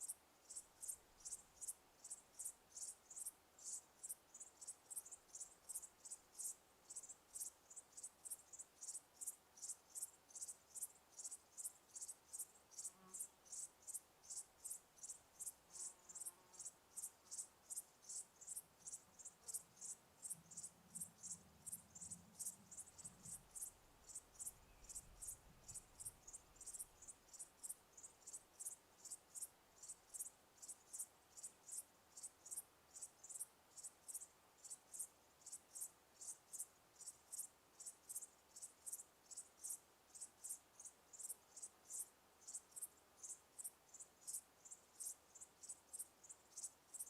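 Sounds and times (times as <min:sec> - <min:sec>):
cricket chirping: 0:00.0 - 0:47.0.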